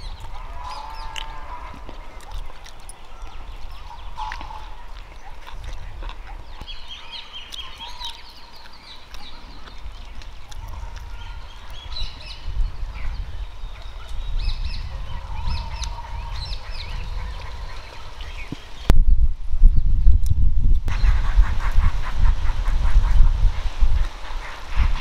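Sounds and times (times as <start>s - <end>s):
birds chirping and whistling: 0.0s - 20.2s.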